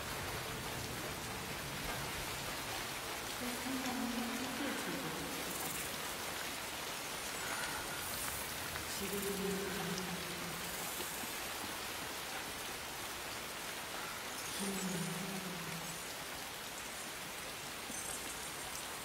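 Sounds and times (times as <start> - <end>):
rain pattering on surfaces: 0.0 - 19.0.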